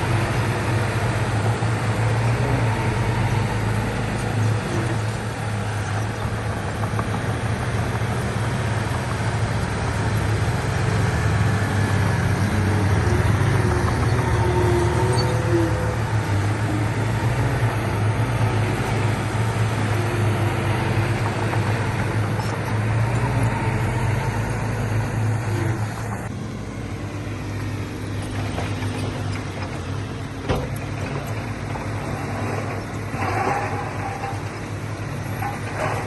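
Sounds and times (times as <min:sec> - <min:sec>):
diesel machinery engine hum: 0:00.0 - 0:36.0.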